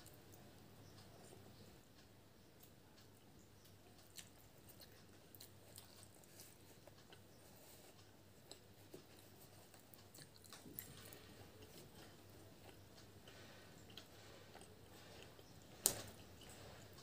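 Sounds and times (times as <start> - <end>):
close-up chewing: 3.0 - 17.0.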